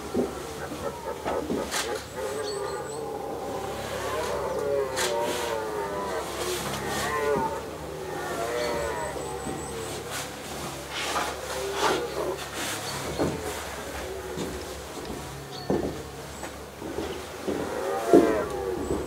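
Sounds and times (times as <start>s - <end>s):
deer stags roaring: 0.0s - 19.0s.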